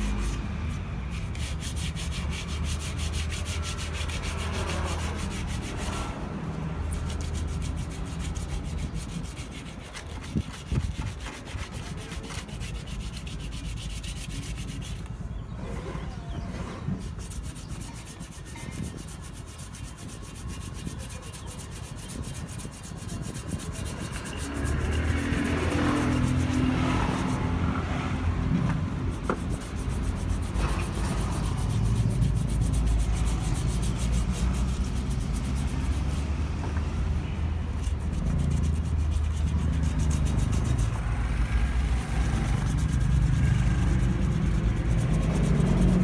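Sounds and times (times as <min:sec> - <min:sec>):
sandpaper rubbing scrape: 0:00.0 - 0:46.0.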